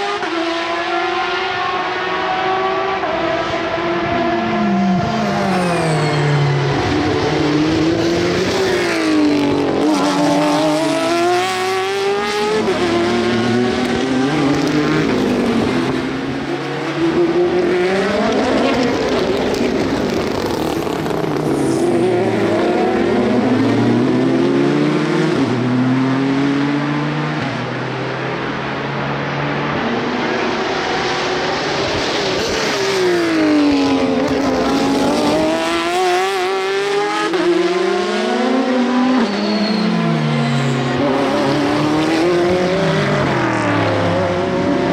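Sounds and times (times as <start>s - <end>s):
race cars passing: 0.0s - 44.9s
engines changing gear: 2.0s - 26.5s, 29.6s - 44.9s.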